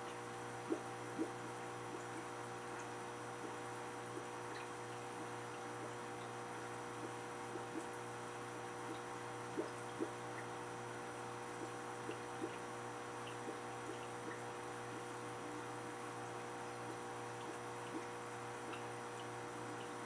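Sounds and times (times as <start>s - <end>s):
aquarium filter humming: 0.0s - 20.0s.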